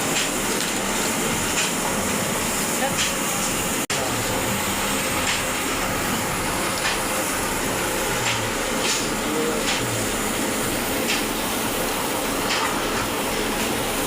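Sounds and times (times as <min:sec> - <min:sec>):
arc welder crackling: 0:00.0 - 0:14.0.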